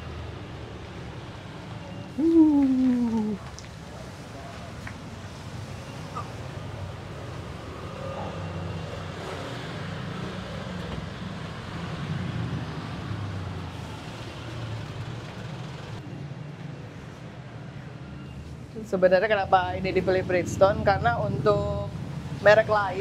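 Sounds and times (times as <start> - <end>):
road traffic noise: 0.0 - 23.0
vehicle rumble: 0.0 - 23.0.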